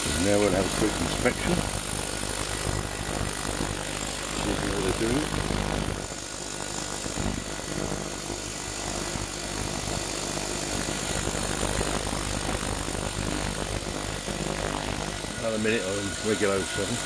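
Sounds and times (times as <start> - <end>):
thin high whine: 0.0 - 17.0
ultrasonic cleaner hissing: 0.0 - 17.0.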